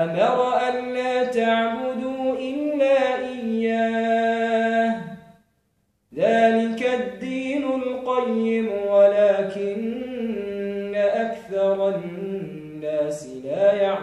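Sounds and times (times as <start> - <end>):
man reciting melodically: 0.0 - 5.4, 6.1 - 14.0.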